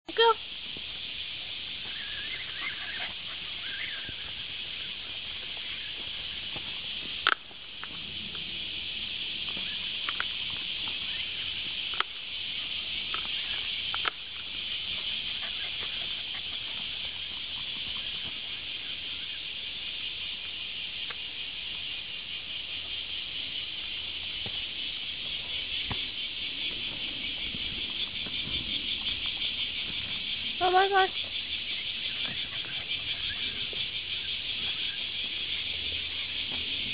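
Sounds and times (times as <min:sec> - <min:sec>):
high insect chorus: 0:00.1 - 0:36.9
light patter on dirt trail: 0:00.1 - 0:36.9.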